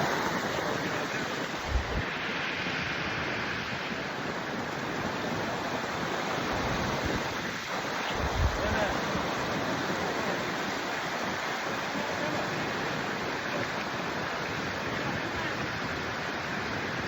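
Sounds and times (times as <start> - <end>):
waterfall rushing: 0.0 - 17.0
wind buffeting the microphone: 0.0 - 17.0.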